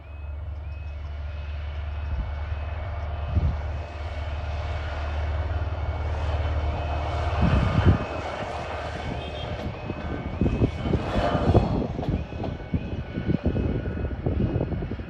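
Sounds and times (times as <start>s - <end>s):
rail car diesel engine drone: 0.0s - 15.0s
train running noise: 0.0s - 15.0s.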